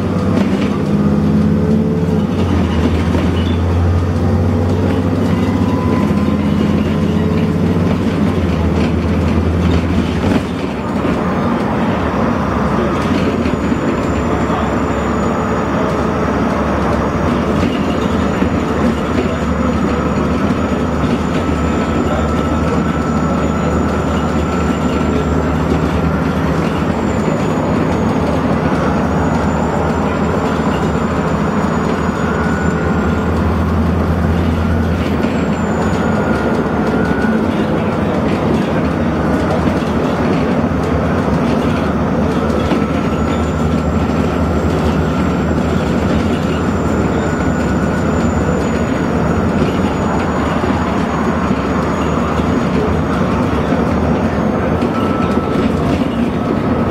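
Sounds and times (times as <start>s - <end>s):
bus diesel engine droning: 0.0s - 56.9s
road noise: 0.0s - 56.9s.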